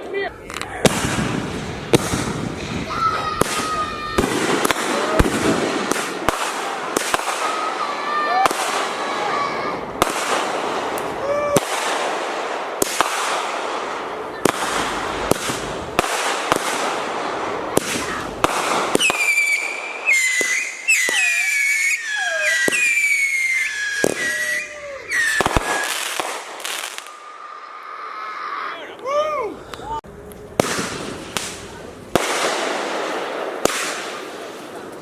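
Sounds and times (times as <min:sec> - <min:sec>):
firework bangs: 0:00.0 - 0:27.4, 0:30.5 - 0:35.0
firework crackling: 0:00.0 - 0:28.4, 0:30.4 - 0:35.0.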